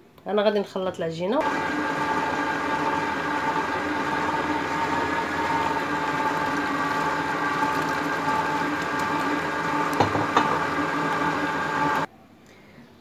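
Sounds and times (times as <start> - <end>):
stand mixer motor whirring: 1.4 - 12.1.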